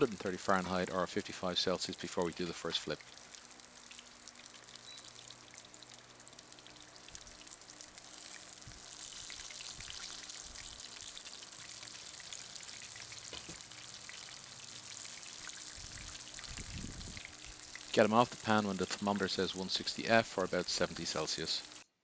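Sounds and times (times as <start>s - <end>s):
chicken frying in oil: 0.0s - 21.8s.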